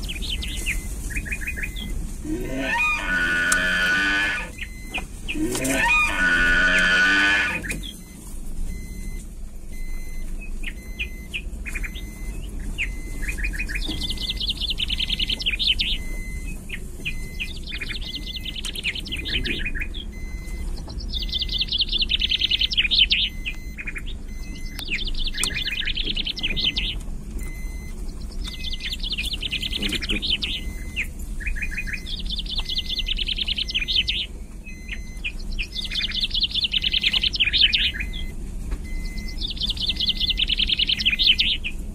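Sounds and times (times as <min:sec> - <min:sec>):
songbird trilling: 0:00.0 - 0:08.0, 0:09.9 - 0:38.3, 0:38.9 - 0:41.8
steady low rumble: 0:00.0 - 0:41.9.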